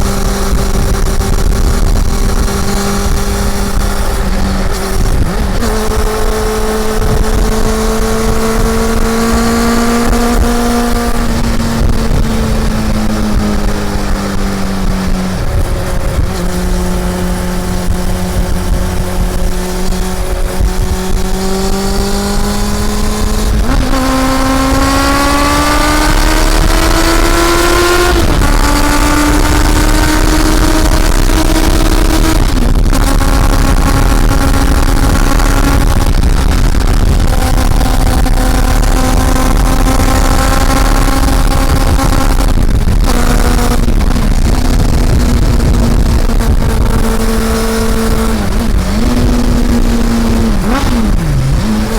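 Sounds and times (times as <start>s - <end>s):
motorcycle engine: 0.0s - 51.9s
steady rushing noise: 0.0s - 51.9s.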